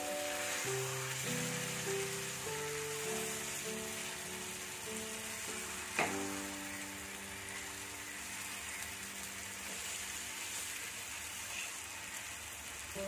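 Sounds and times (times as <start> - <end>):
chicken and onion sizzling in a pan: 0.0 - 13.0.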